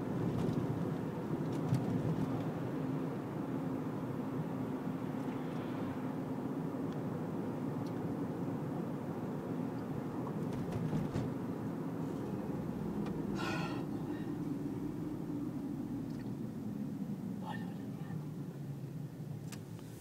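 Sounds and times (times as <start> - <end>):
car engine rumble: 0.0 - 20.0
tyres on the road: 0.0 - 20.0.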